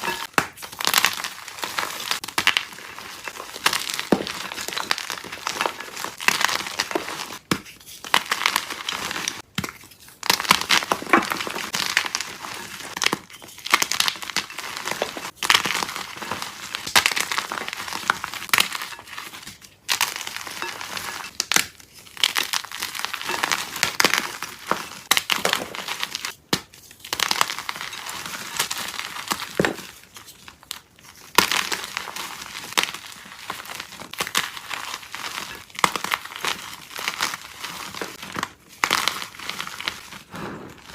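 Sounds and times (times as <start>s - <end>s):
chalk being crushed: 0.0s - 40.9s.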